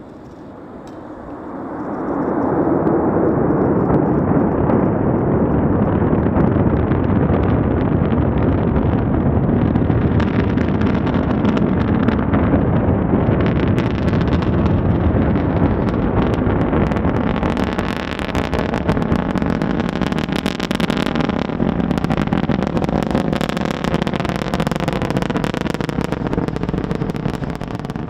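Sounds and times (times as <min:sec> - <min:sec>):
rocket engines roaring: 0:00.0 - 0:28.0.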